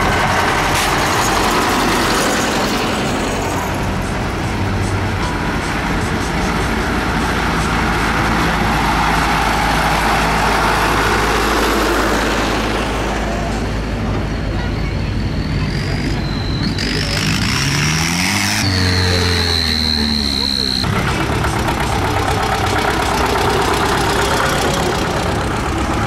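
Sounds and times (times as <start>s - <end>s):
engine revving: 0.0s - 13.9s, 15.3s - 26.0s
tractor engines running: 0.0s - 26.0s.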